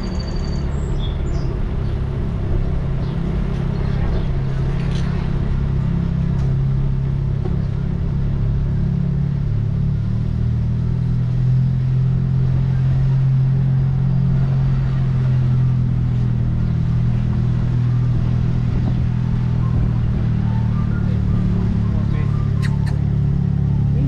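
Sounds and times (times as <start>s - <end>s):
car engine running low: 0.0s - 24.0s.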